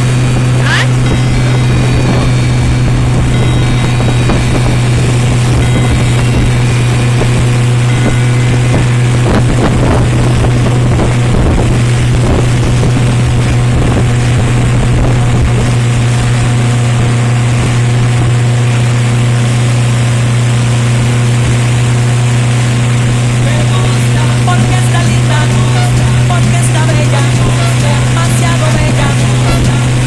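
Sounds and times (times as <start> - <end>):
motorboat engine droning: 0.0 - 30.0
water rushing: 0.0 - 30.0
wind buffeting microphone: 0.0 - 30.0.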